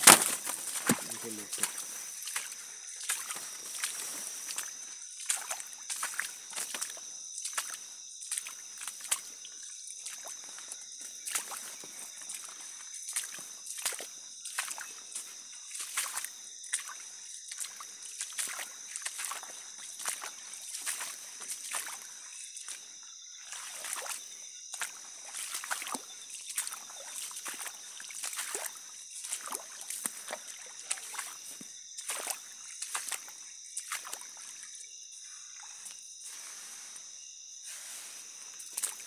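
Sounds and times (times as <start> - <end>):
footsteps squelching through mud: 0.0 - 34.8, 38.2 - 39.0.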